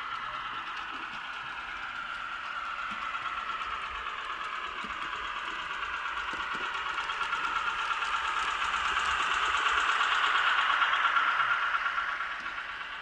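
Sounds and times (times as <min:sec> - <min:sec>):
model locomotive diesel engine knock: 0:00.0 - 0:13.0.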